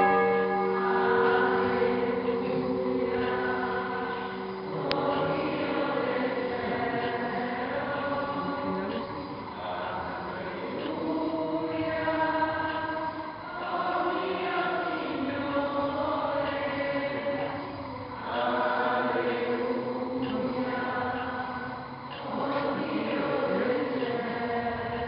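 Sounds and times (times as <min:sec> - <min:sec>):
choir chanting: 0:00.0 - 0:25.0.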